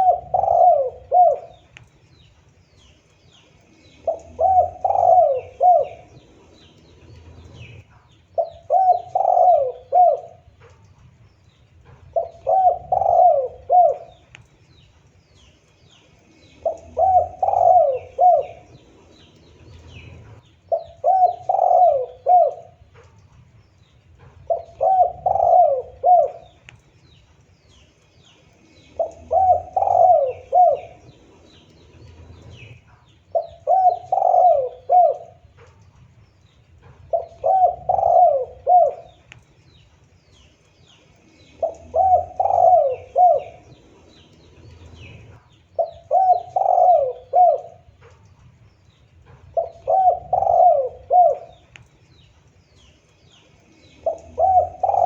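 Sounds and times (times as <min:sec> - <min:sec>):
dove cooing: 0:00.0 - 0:02.2, 0:03.6 - 0:14.5, 0:16.3 - 0:27.8, 0:28.5 - 0:55.0
small birds chirping: 0:00.0 - 0:55.0.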